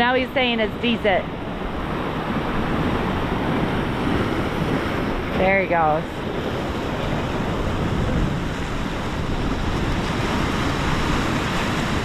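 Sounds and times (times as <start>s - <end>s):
ocean surf washing: 0.0s - 12.0s
wind noise on microphone: 0.0s - 12.0s.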